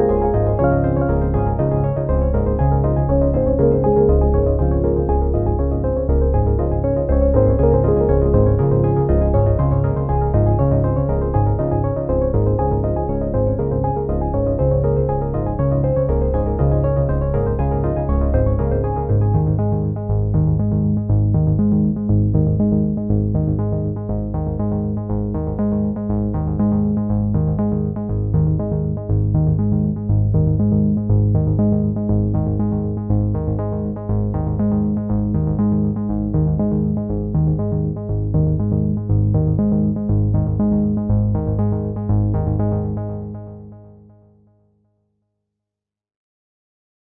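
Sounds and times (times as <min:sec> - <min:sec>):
synthesizer electronic music: 0:00.0 - 0:44.1.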